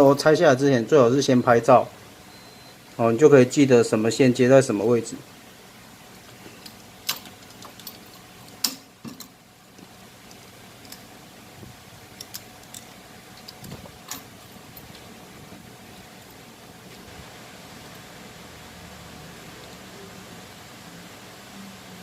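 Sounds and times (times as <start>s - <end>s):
faint steady hiss: 0.0s - 22.0s.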